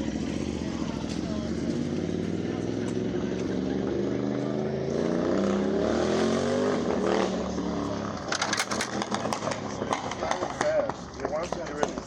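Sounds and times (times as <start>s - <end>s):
motorcycle engine revving: 0.0s - 12.0s
voices: 0.0s - 12.0s.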